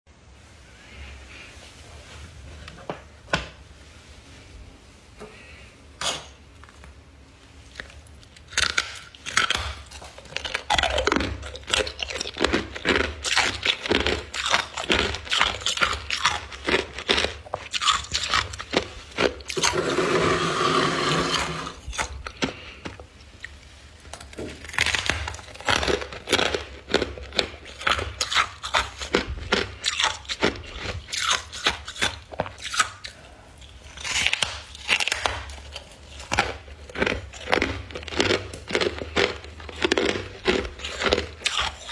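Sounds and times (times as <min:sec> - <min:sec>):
ice being chewed crunching: 0:07.5 - 0:41.9.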